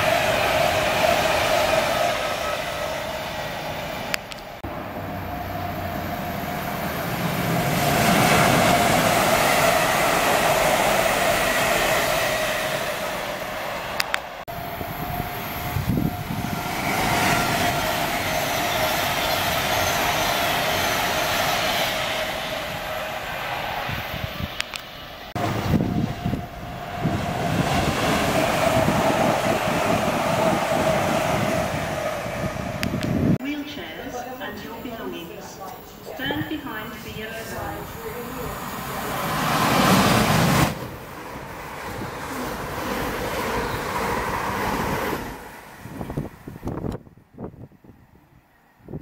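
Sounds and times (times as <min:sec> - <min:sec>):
train wheel and rail noise: 0:00.0 - 0:49.0.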